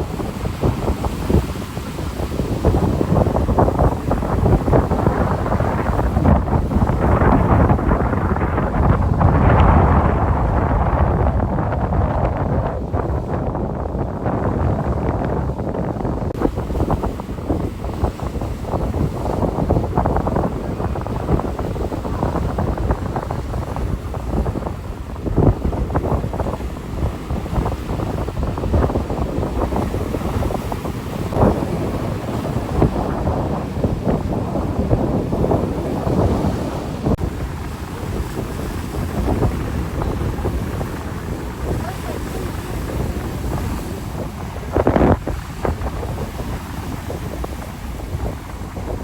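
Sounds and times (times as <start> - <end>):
rough sea: 0.0 - 49.0
surf washing: 0.0 - 49.0
wind buffeting microphone: 0.0 - 49.0.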